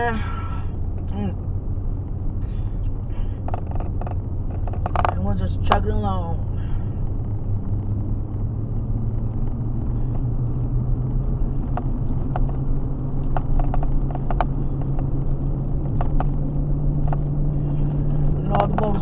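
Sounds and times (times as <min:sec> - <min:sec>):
engine and road hum: 0:00.0 - 0:19.0
light ticks: 0:00.6 - 0:06.1, 0:09.0 - 0:19.0.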